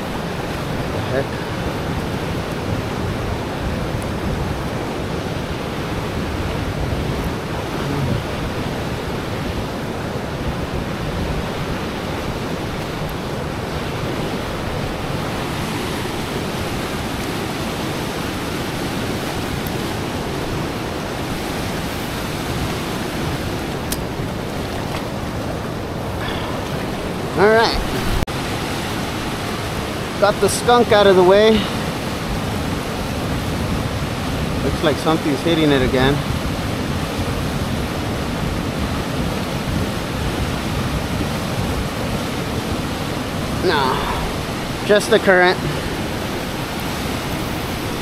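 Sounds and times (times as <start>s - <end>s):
fast-flowing river water rushing: 0.0s - 48.0s.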